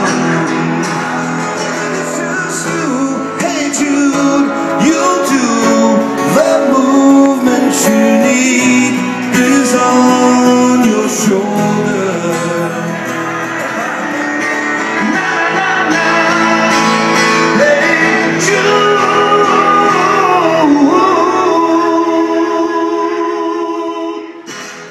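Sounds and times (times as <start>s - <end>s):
acoustic guitar: 0.0s - 24.9s
man singing: 0.0s - 24.9s.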